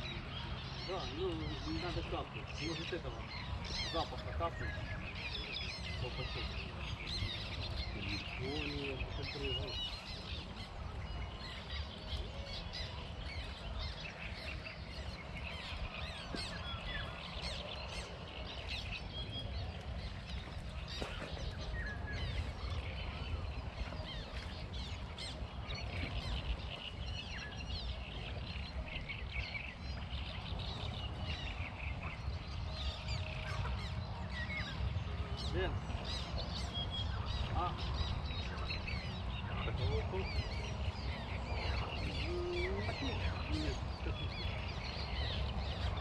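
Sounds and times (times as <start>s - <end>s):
birds chirping and calling: 0.0s - 46.0s.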